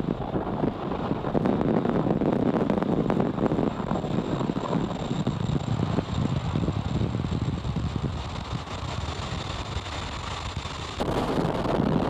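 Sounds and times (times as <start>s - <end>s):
rushing wind with buffeting: 0.0s - 12.0s.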